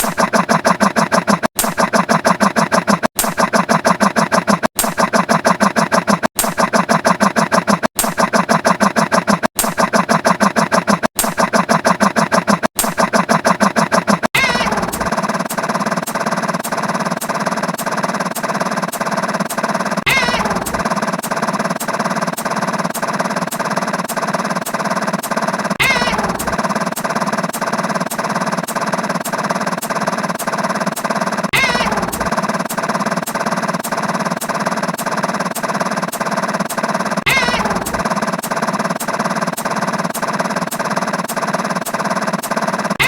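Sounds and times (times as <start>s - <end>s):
rapid pulsing buzz: 0.0s - 43.0s
sharp ticks: 0.0s - 43.0s.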